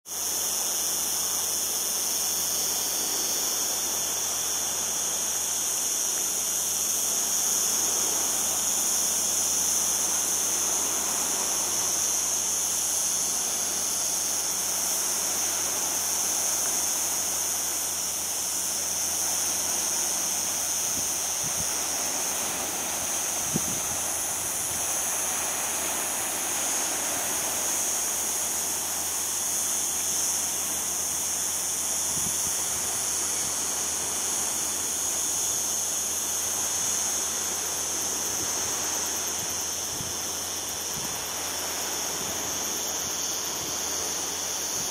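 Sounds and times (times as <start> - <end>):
cicadas singing: 0.1 - 44.9
sea surf: 0.1 - 44.9.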